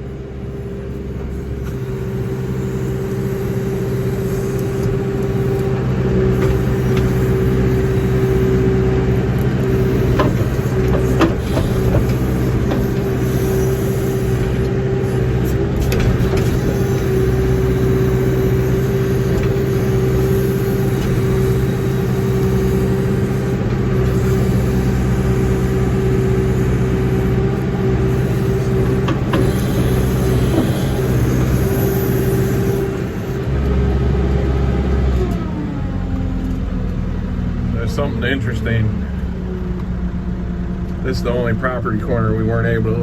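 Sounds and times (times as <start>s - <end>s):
diesel engine running: 0.0s - 43.0s
hydraulic whine: 0.0s - 43.0s.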